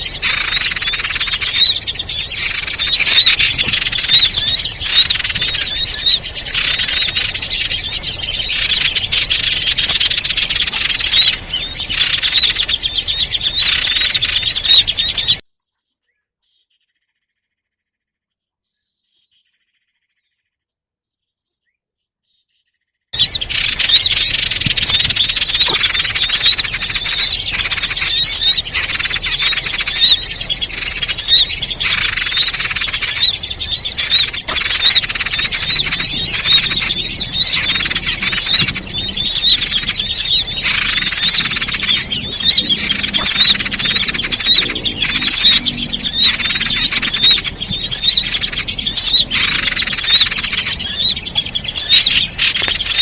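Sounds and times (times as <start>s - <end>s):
songbirds chirping and squawking: 0.0s - 53.0s.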